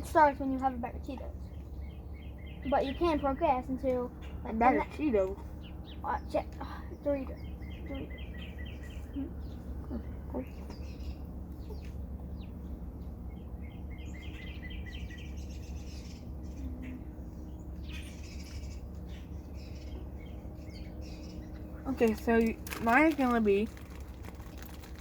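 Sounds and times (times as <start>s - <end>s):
steady low hum: 0.0s - 25.0s
bird trilling and chirping: 1.4s - 25.0s.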